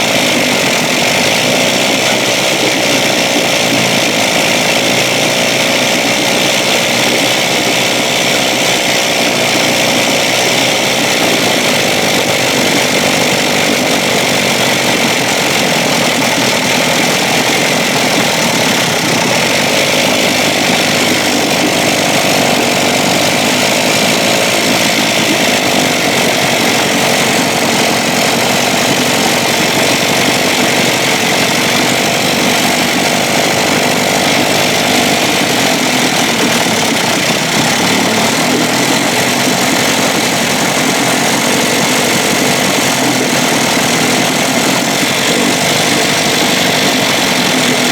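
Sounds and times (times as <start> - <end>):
outboard motor running: 0.0 - 47.9.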